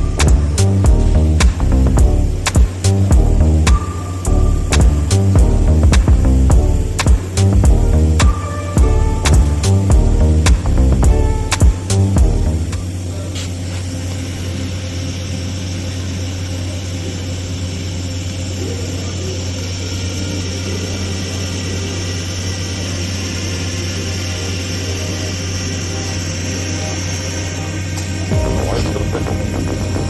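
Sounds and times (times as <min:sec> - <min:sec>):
welding arc buzzing: 0:00.0 - 0:30.0.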